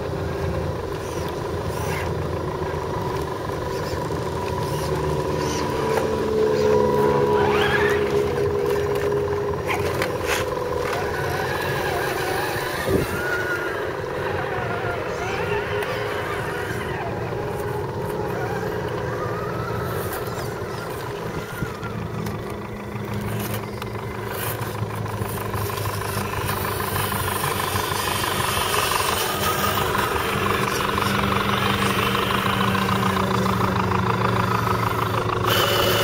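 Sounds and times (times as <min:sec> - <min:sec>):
low steady hum: 0:00.0 - 0:36.0
rc truck motor whine: 0:00.0 - 0:36.0.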